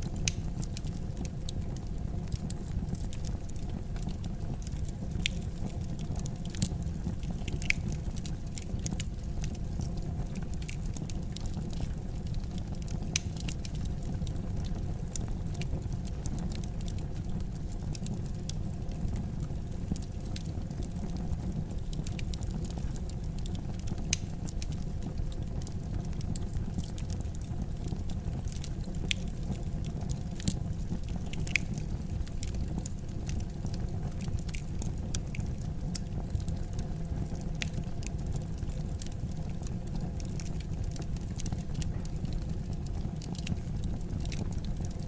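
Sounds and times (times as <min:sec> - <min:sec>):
fire crackling and popping: 0:00.0 - 0:45.0
fire rumbling: 0:00.0 - 0:45.0.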